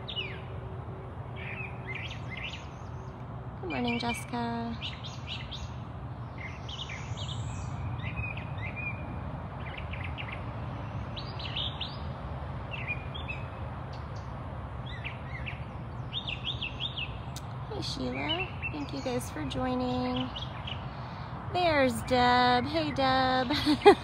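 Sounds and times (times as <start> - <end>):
birds chirping and trilling: 0.0 - 0.7, 1.3 - 24.0.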